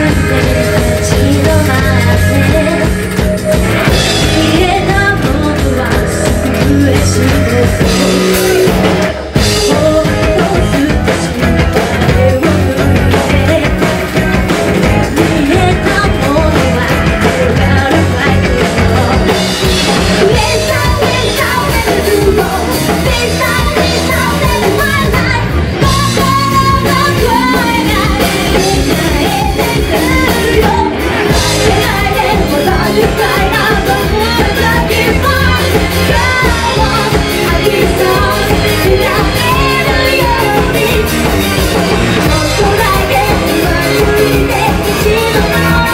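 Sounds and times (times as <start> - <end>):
live rock band playing: 0.0 - 45.9
woman singing lead: 0.0 - 45.9.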